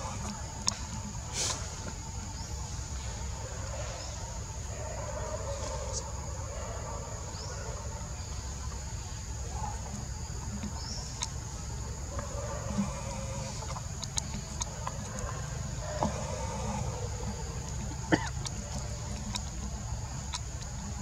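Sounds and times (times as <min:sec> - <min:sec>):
constant low rumble: 0:00.0 - 0:21.0.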